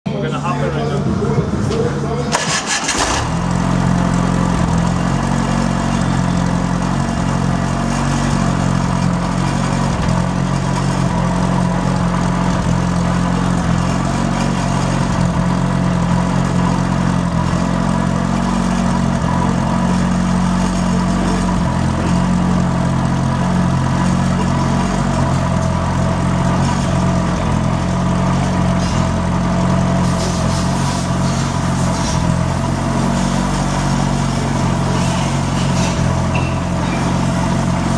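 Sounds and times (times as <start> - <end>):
concrete saw engine running: 0.1 - 37.9.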